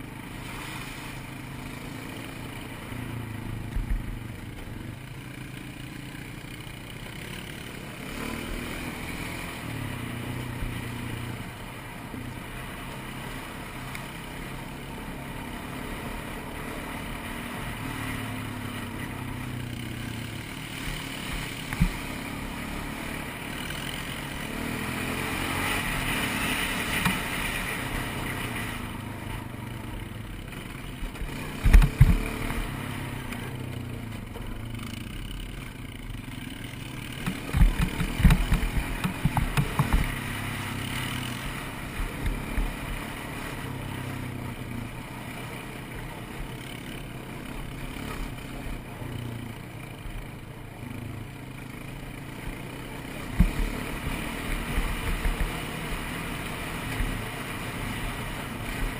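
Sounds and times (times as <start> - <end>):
atv engine running: 0.0 - 58.9.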